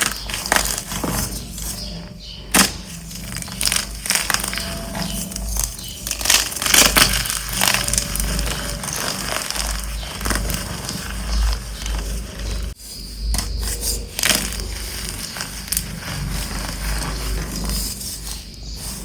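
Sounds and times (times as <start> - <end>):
chalk blocks crunching: 0.0 - 19.0.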